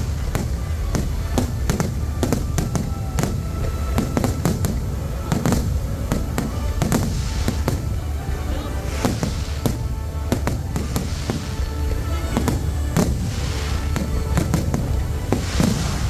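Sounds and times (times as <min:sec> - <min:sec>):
fireworks bangs: 0:00.0 - 0:16.0
fireworks crackling: 0:00.0 - 0:16.0
music: 0:00.0 - 0:16.0.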